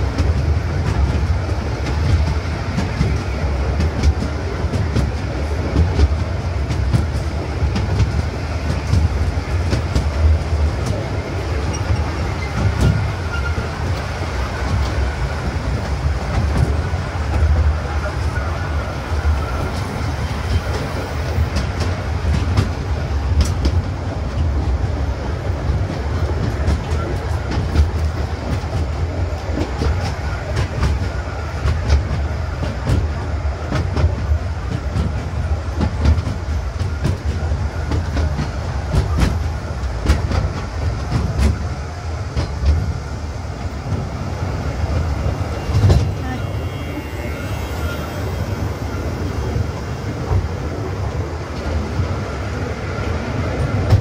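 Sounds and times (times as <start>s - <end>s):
train rumbling on track: 0.0s - 54.0s
wheels clicking on rails: 0.0s - 54.0s.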